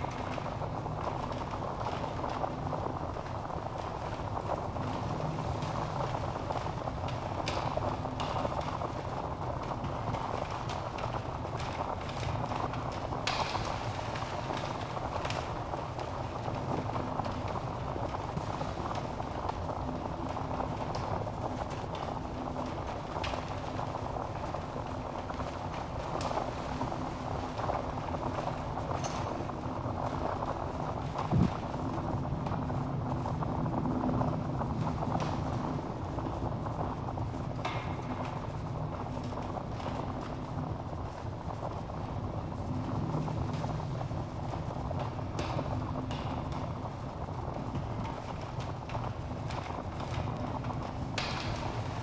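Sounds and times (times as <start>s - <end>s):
logs crackling and popping: 0.0s - 52.0s
wood fire flame rushing: 0.1s - 52.0s.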